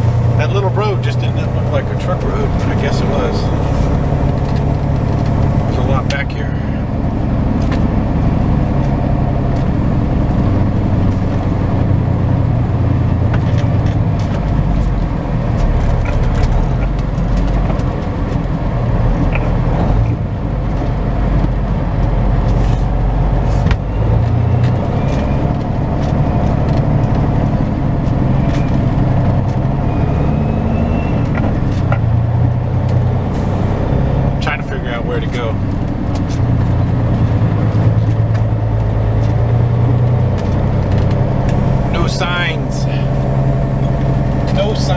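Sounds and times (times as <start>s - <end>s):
diesel truck engine driving slowly: 0.0s - 44.9s.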